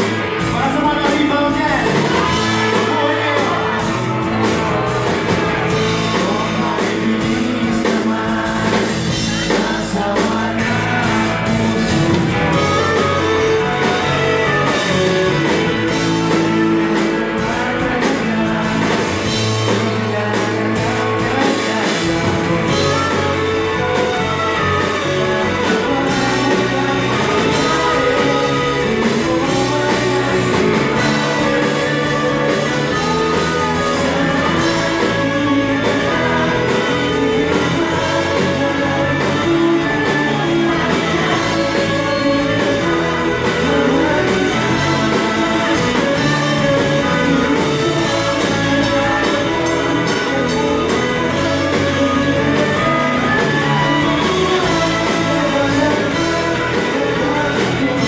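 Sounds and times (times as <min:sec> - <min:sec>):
drums: 0:00.0 - 0:58.0
electric guitars: 0:00.0 - 0:58.0
person singing: 0:00.0 - 0:58.0.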